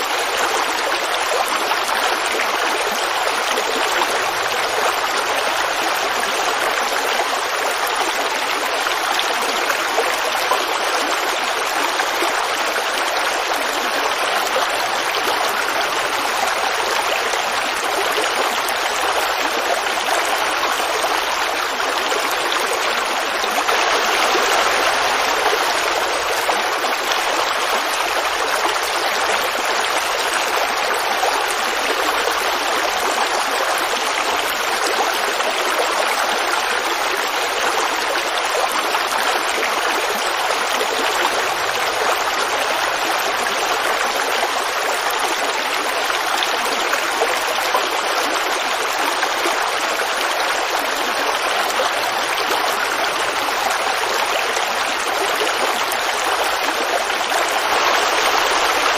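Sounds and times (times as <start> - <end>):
creek water babbling over rocks: 0.0 - 58.9.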